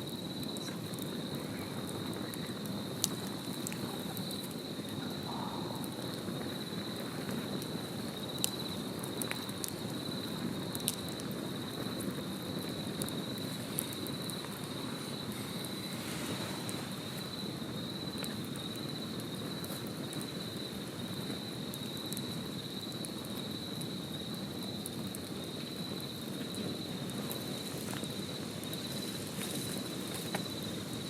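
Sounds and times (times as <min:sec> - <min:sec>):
high insect trill: 0:00.0 - 0:31.0
wood fire crackling: 0:00.0 - 0:31.0.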